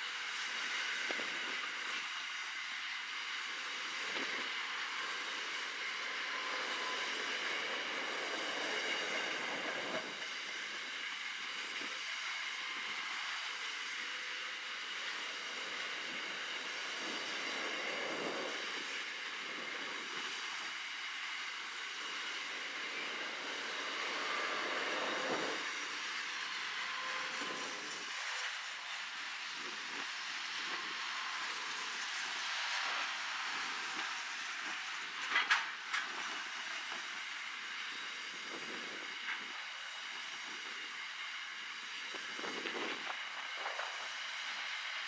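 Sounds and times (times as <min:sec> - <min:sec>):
steel wheels on rail: 0:00.2 - 0:45.0.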